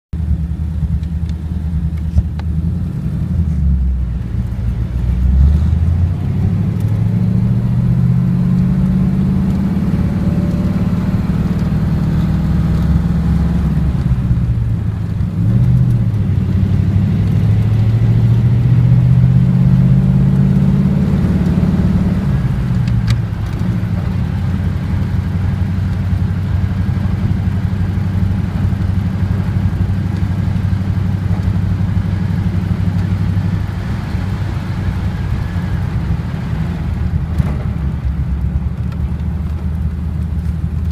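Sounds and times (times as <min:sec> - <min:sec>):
car engine running: 0:00.1 - 0:40.9.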